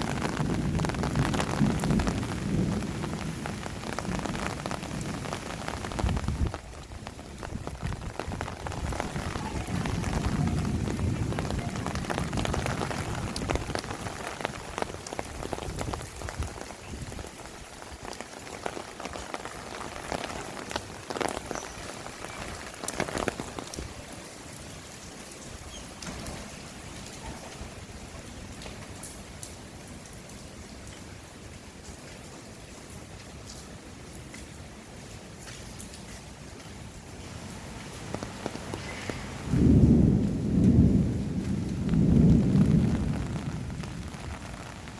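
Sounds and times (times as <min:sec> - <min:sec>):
heavy rain pouring: 0:00.0 - 0:44.9
sharp raindrops striking: 0:00.0 - 0:44.9.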